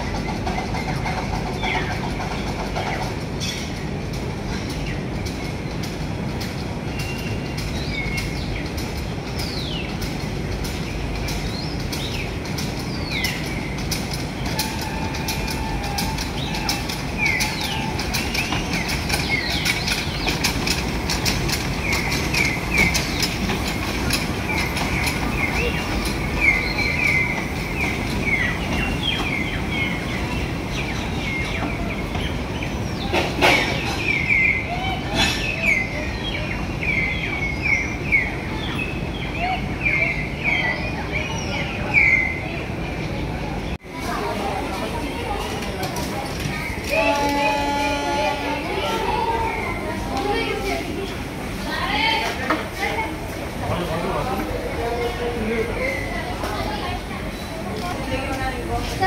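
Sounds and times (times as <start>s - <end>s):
birds chirping: 0.0s - 59.0s
train rumbling: 0.0s - 59.0s.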